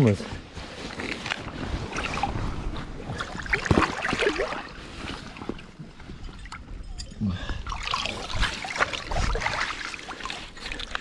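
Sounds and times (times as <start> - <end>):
water sloshing and splashing: 0.4 - 11.0.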